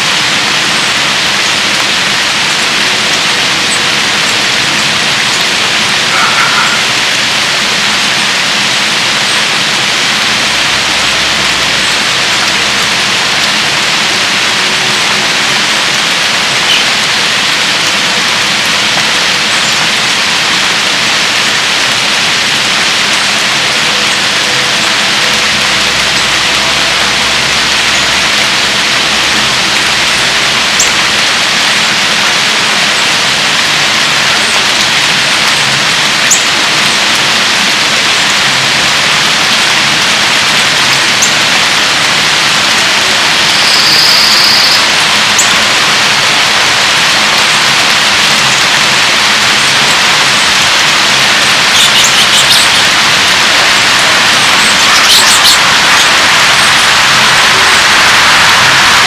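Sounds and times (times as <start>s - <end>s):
heavy rain pouring: 0.0s - 59.0s
raindrops ticking nearby: 0.0s - 59.0s.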